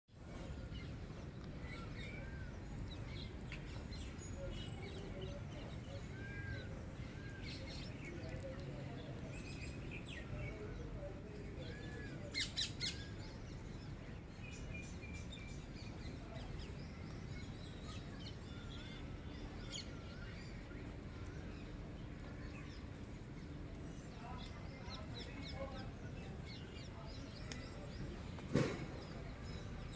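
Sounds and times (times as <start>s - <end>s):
steady low background noise: 0.2s - 29.9s
birds chirping: 0.3s - 29.9s.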